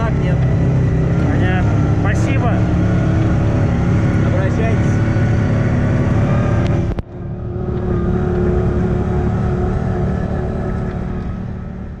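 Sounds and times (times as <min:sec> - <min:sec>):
engine drone with held tone: 0:00.0 - 0:12.0
off-road vehicle engine running: 0:00.0 - 0:12.0.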